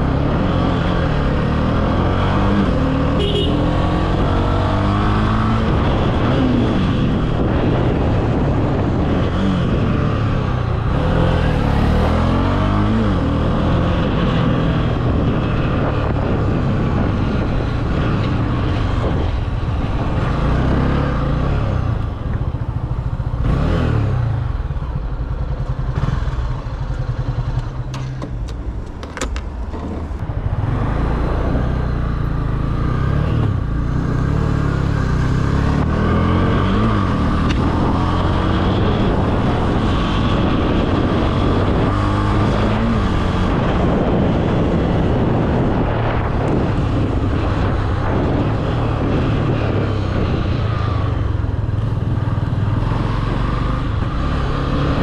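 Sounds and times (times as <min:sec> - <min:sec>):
motorcycle engine revving: 0:00.0 - 0:28.2, 0:30.0 - 0:55.0.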